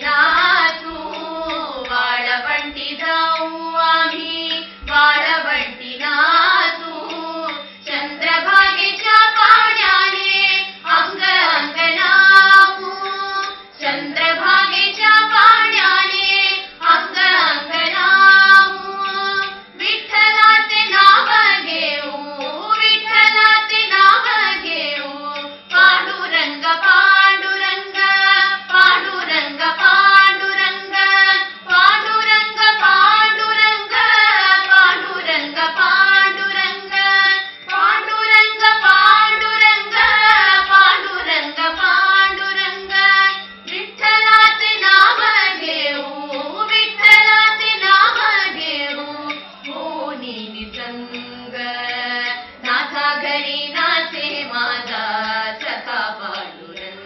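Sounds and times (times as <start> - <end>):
women singing in unison: 0.0 - 57.0.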